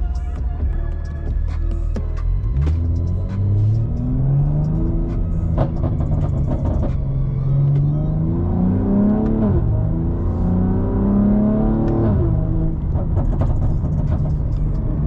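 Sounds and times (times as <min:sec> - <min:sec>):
car engine accelerating: 0:01.6 - 0:15.0.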